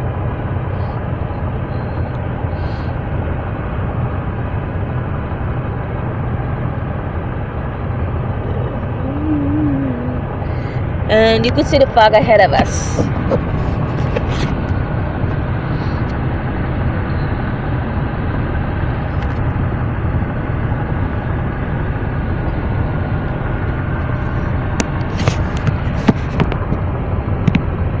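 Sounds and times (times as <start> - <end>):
road and engine rumble in car: 0.0 - 28.0.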